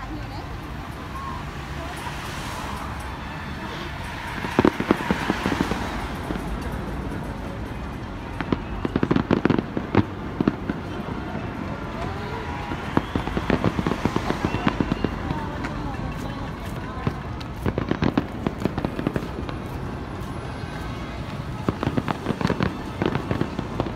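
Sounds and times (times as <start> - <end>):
fireworks bangs and crackles: 0.0 - 23.9
street noise hum: 0.0 - 23.9.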